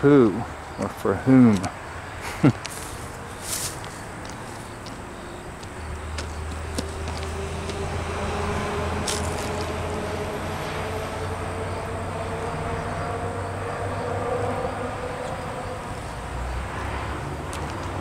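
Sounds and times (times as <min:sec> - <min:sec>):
low engine hum: 0:01.9 - 0:18.0.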